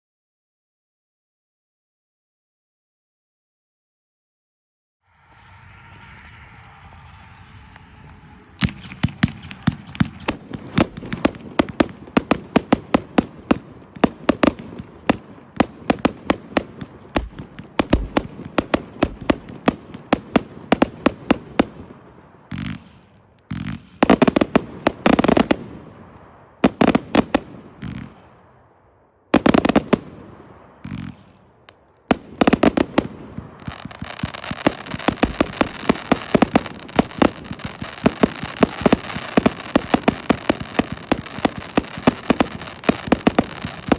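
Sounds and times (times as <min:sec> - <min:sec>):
firework bangs: 0:05.1 - 0:43.9.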